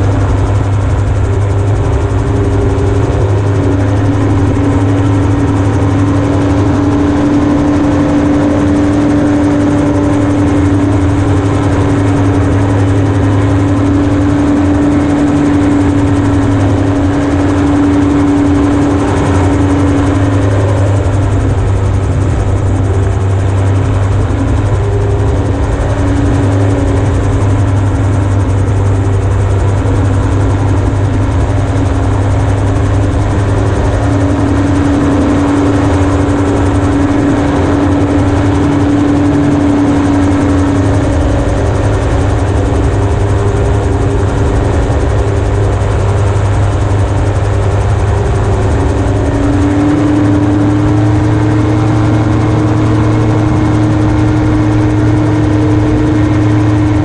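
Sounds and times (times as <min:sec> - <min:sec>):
engine and propeller drone: 0:00.0 - 0:57.0.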